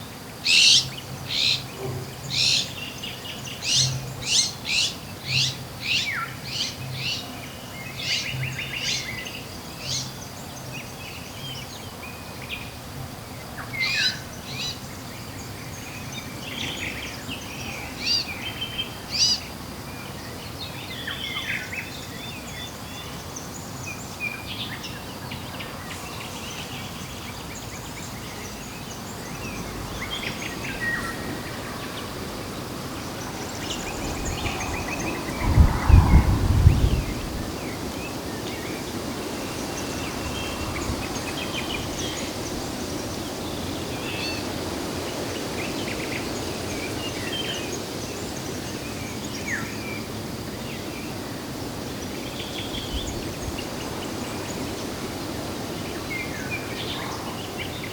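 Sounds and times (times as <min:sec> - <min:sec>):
steady outdoor hiss: 0:00.0 - 0:57.9.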